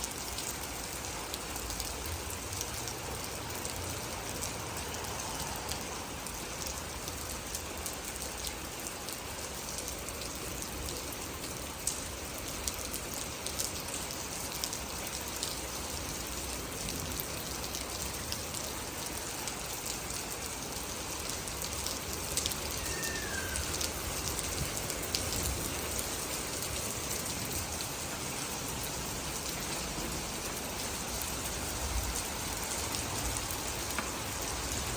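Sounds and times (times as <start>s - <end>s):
raindrops ticking: 0.0s - 34.9s
steady rain: 0.0s - 34.9s.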